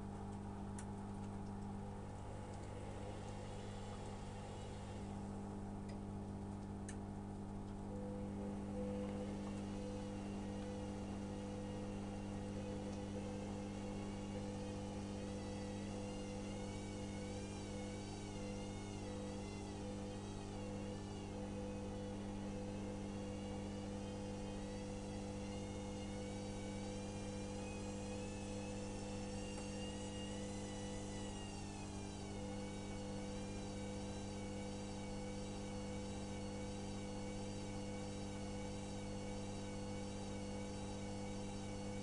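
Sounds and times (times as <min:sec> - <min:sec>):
washing machine motor hum: 0:00.0 - 0:42.0
high whine: 0:01.0 - 0:42.0.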